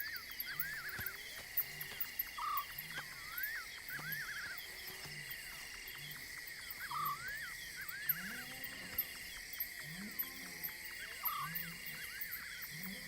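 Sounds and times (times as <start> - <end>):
insects droning: 0.0 - 13.0
night animals chirping and croaking: 0.0 - 13.0.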